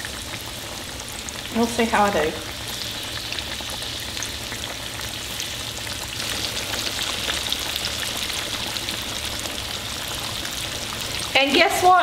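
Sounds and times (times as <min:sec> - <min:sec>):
chicken deep-frying in oil: 0:00.0 - 0:12.0
sizzling hiss with crackles: 0:00.0 - 0:12.0.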